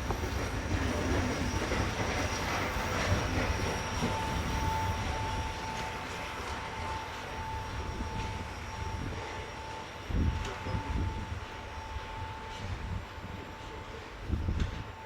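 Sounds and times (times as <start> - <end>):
steam train rumbling: 0.0 - 15.0
steady high tone: 0.4 - 13.9.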